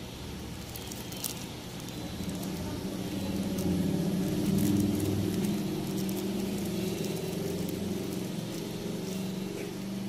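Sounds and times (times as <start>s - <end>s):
low motor hum: 0.0s - 10.0s
plastic bag crinkling: 0.4s - 10.0s.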